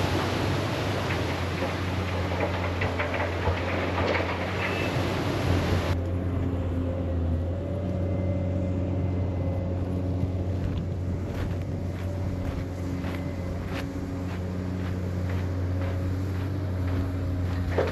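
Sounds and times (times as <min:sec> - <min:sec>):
large engine humming: 0:00.0 - 0:17.9.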